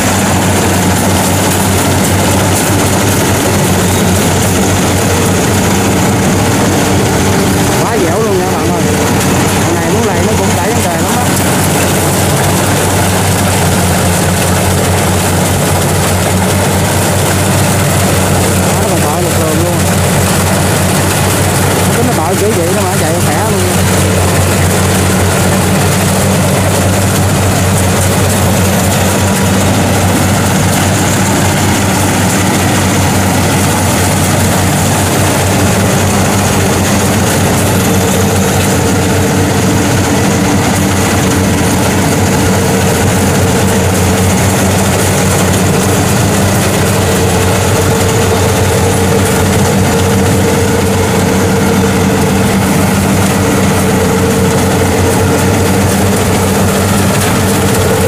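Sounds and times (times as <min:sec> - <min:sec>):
combine harvester diesel engine: 0:00.0 - 0:58.0
high machine whine: 0:00.0 - 0:58.0.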